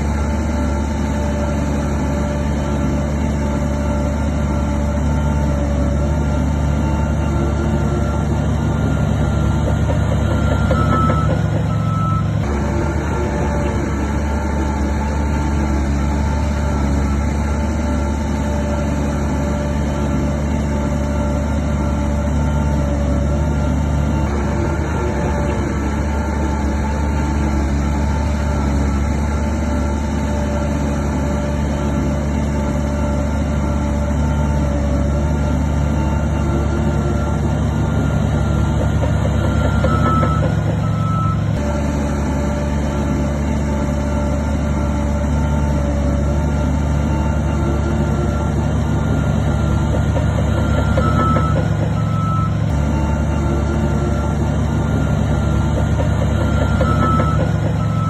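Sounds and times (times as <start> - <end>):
heavy diesel machinery engine drone: 0.0 - 58.0
reversing alarm beeping: 0.1 - 58.0.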